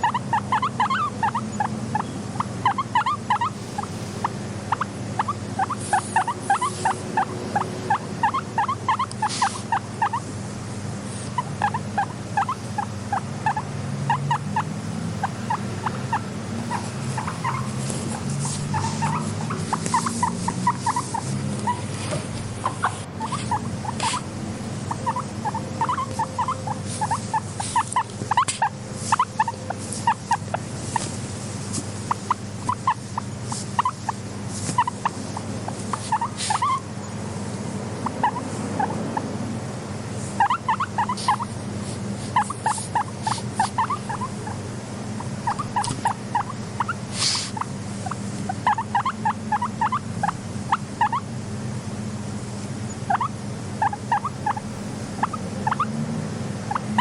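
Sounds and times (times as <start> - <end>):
guinea pig calling: 0.0 - 37.2, 38.0 - 39.3, 40.2 - 51.4, 52.8 - 57.0
steady low hum: 0.0 - 57.0.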